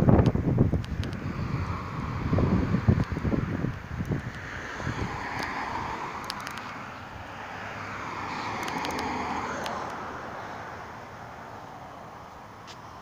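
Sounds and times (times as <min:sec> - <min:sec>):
vehicle passing: 0:00.1 - 0:13.0.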